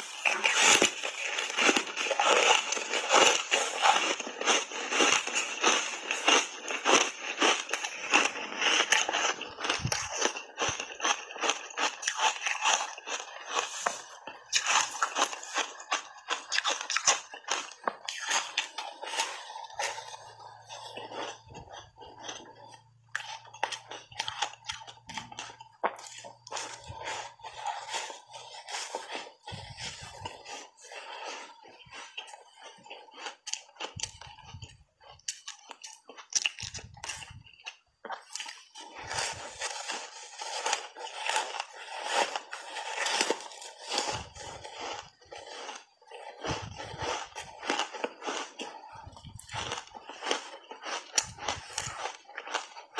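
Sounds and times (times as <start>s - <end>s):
ice crunching in bites: 0.0s - 29.1s, 32.0s - 52.9s.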